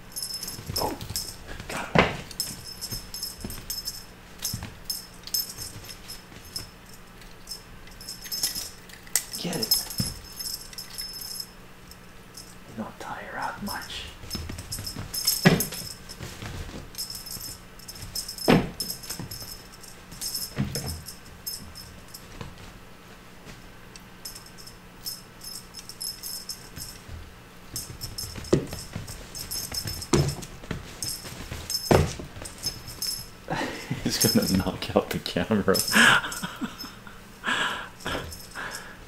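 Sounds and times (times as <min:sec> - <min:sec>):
small bells jingling: 0:00.0 - 0:22.8, 0:24.2 - 0:37.2, 0:37.8 - 0:39.0
kittens pouncing and landing: 0:00.2 - 0:11.5, 0:14.2 - 0:23.6, 0:24.2 - 0:34.8.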